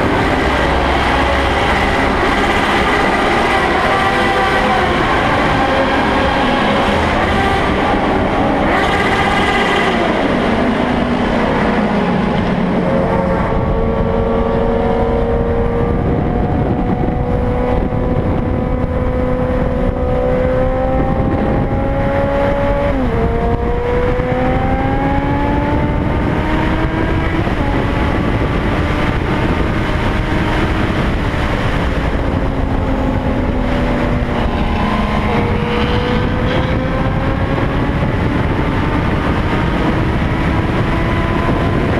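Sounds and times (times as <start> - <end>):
vehicle motor rumbling: 0.0 - 41.9.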